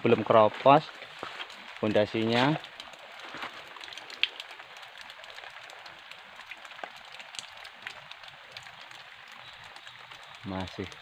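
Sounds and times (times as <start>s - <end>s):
water falling on wet ground: 0.0s - 11.0s.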